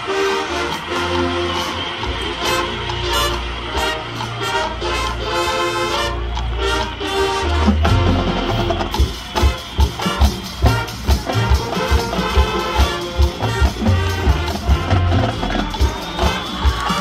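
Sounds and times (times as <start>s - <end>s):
brass and woodwinds chords: 0.0s - 17.0s.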